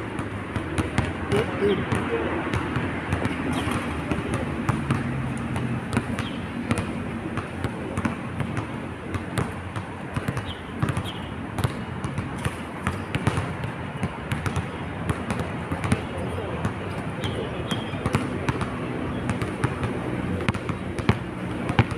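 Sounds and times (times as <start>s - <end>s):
basketball bouncing: 0.0s - 21.9s.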